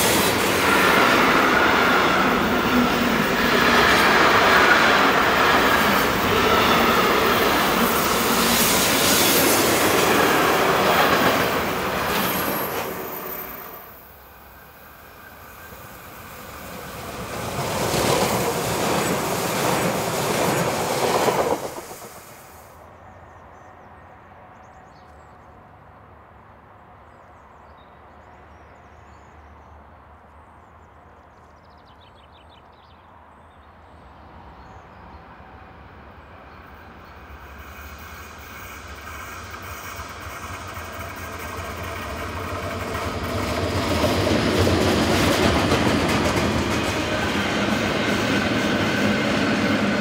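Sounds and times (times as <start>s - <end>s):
train rushing past: 0.0s - 24.5s, 34.0s - 50.0s
electric locomotive approaching: 0.0s - 31.7s, 34.0s - 50.0s.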